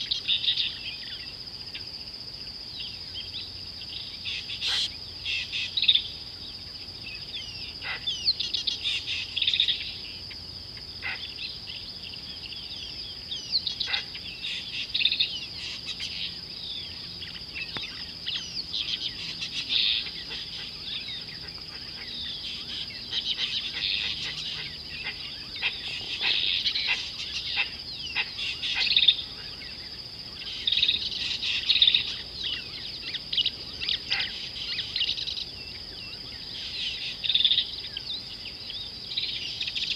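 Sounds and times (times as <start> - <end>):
constant high-pitched whine: 0.0 - 39.9
small birds chirping: 0.0 - 39.9.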